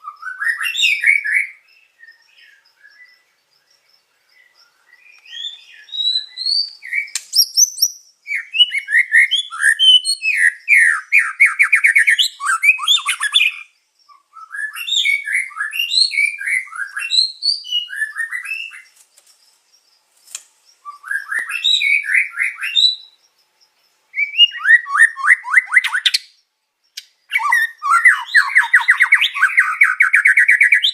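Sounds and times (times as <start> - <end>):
songbird whistles chirps and trills: 0.0 - 30.9.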